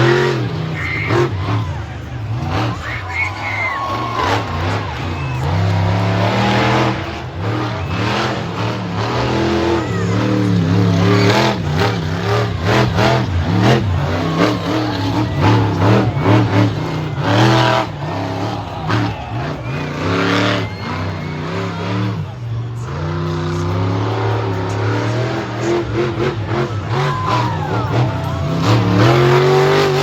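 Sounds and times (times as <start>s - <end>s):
truck engine revving hard: 0.0s - 30.0s.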